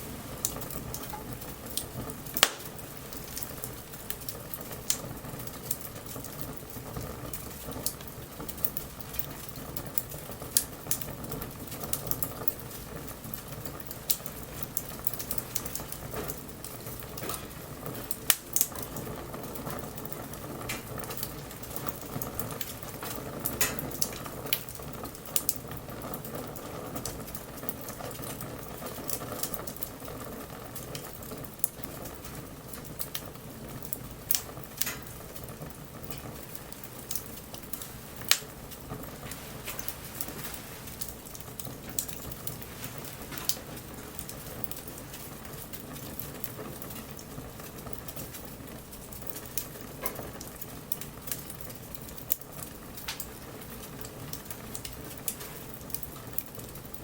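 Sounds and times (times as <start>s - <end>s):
bonfire crackling: 0.0s - 57.0s.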